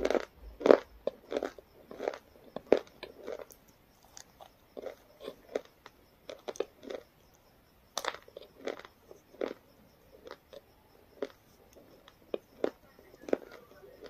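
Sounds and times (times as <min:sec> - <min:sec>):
person chewing and crunching: 0:00.0 - 0:07.3, 0:07.9 - 0:14.0.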